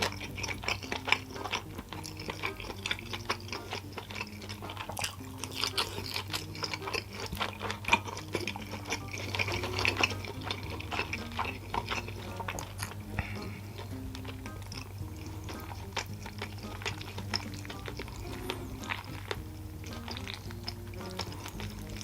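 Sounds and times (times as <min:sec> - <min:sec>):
food crackling in a pan: 0:00.0 - 0:22.0
steady low hum: 0:00.0 - 0:22.0.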